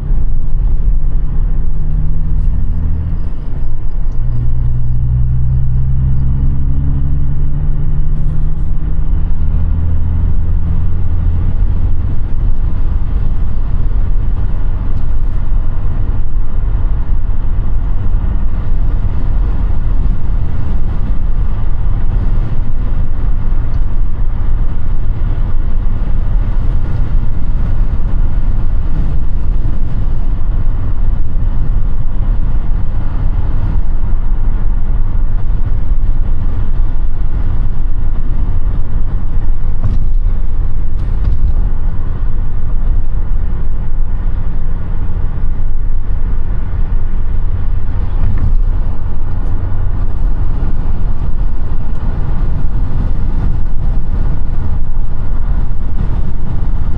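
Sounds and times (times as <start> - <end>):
car engine rumble: 0.0 - 56.9
road noise: 0.0 - 56.9.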